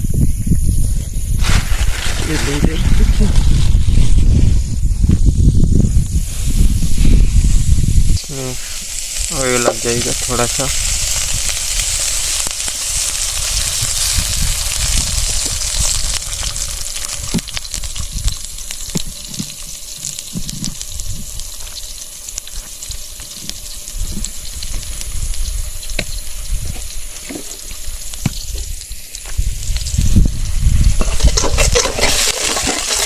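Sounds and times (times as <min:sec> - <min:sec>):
campfire crackles: 0:00.7 - 0:33.0
oil sizzling in a pan: 0:01.3 - 0:33.0.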